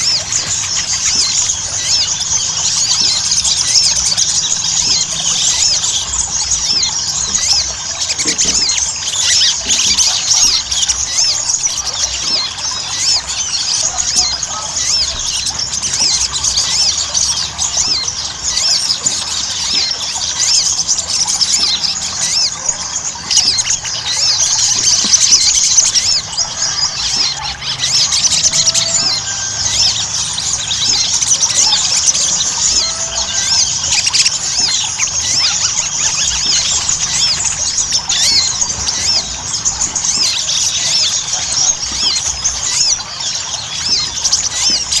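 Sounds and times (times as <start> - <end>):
bird singing high chatter: 0.0 - 45.0.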